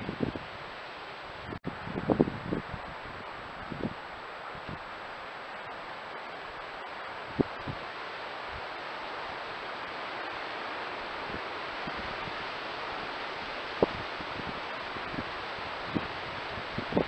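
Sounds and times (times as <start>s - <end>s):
wind hissing: 0.0s - 17.0s.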